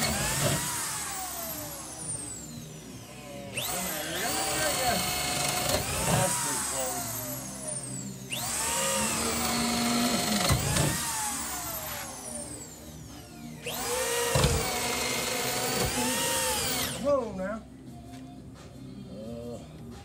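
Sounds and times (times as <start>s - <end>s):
power drill boring into wood: 0.0s - 17.1s.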